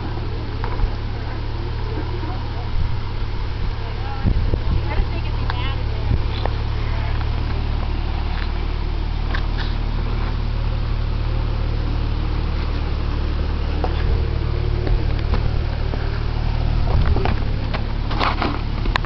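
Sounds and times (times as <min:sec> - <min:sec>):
car engine running at low speed: 0:00.0 - 0:19.0.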